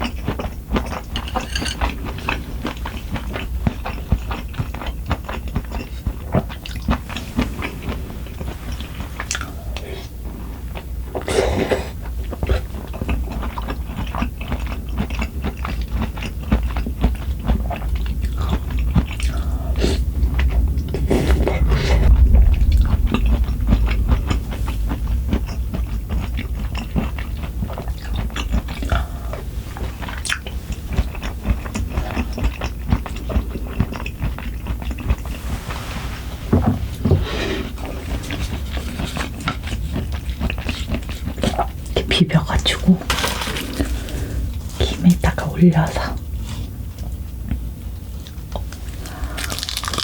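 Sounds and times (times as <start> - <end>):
person chewing food: 0.0 - 35.7, 36.6 - 42.0, 46.2 - 50.0.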